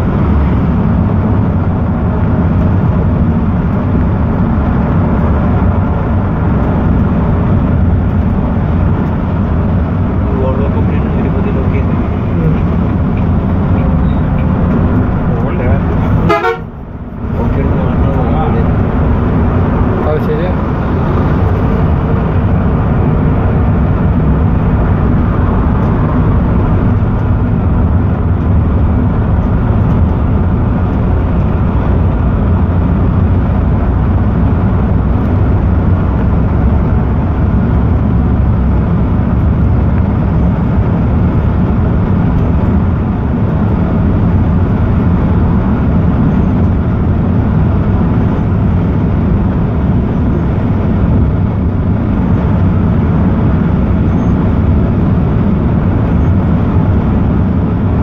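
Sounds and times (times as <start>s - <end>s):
diesel engine droning: 0.0s - 58.0s
low road rumble: 0.0s - 58.0s.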